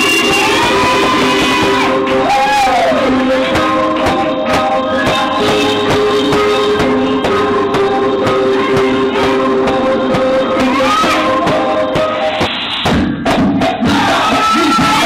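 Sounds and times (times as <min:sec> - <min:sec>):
high sliding melody: 0:00.0 - 0:14.2
loud dance music: 0:00.0 - 0:15.0.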